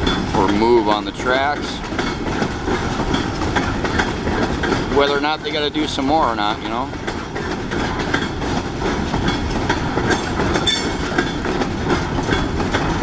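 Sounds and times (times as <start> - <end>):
freight cars rumbling: 0.0 - 13.0
wheels clacking over rail joints: 0.0 - 13.0
high wheel squeal: 2.2 - 13.0.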